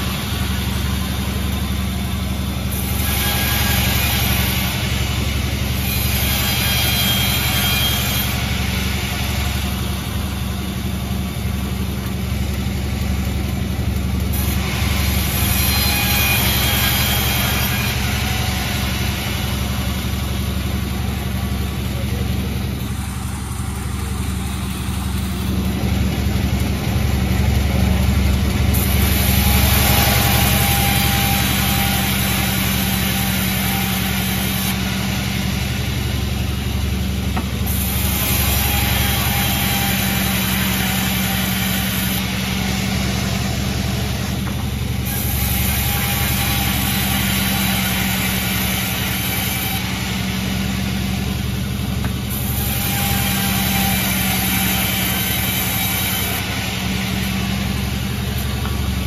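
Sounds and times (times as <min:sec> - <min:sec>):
saw cutting through wood: 0:00.0 - 0:59.0
sawmill engine hum: 0:00.0 - 0:59.0.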